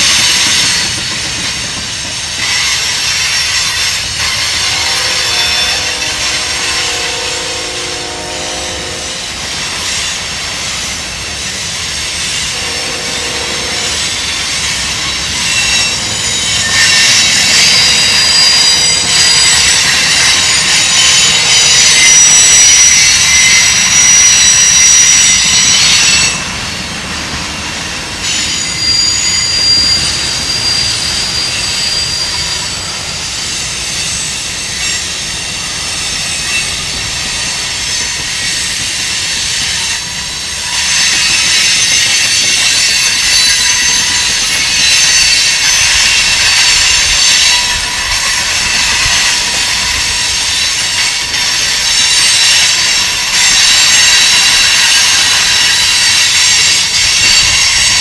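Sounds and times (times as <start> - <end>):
wheel squeal: 0.0 - 26.8, 28.2 - 58.0
train wheels rumbling on rail: 0.0 - 58.0.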